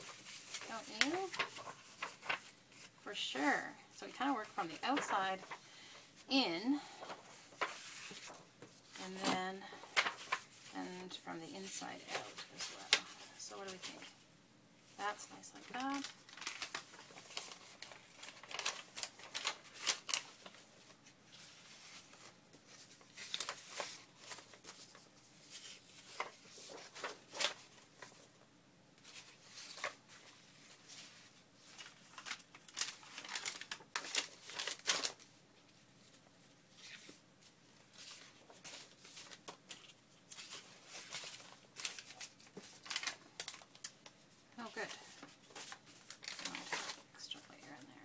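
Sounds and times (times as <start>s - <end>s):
paper sheets rustling: 0.0s - 3.5s, 4.1s - 14.2s, 15.0s - 28.3s, 29.0s - 47.9s.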